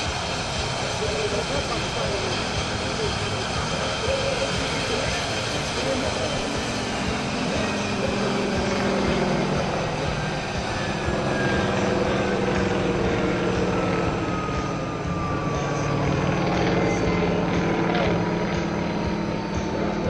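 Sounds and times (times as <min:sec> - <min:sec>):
helicopter engine drone and whine: 0:00.0 - 0:20.0.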